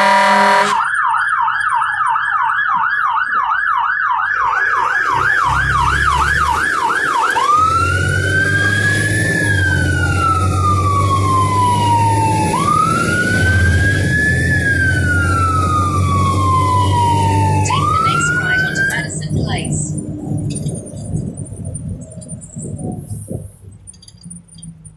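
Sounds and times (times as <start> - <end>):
truck engine running: 0.0 - 0.9, 3.0 - 24.9
fire engine siren: 0.0 - 23.0.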